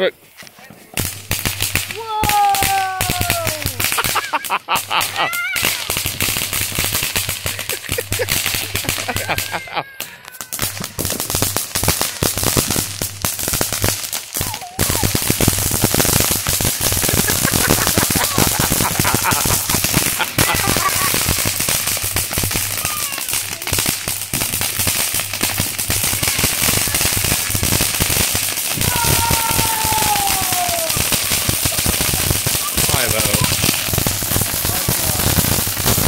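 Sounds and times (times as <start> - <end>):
firework crackling: 0.0 - 36.0.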